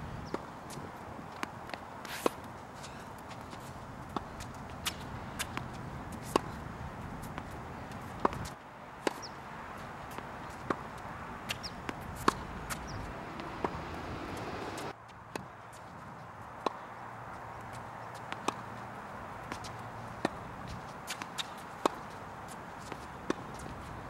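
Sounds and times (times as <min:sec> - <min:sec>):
tennis balls bouncing on hard court: 0:00.2 - 0:15.5, 0:19.4 - 0:23.9
tennis balls struck by racket: 0:01.3 - 0:15.5, 0:17.7 - 0:18.7, 0:19.4 - 0:23.8.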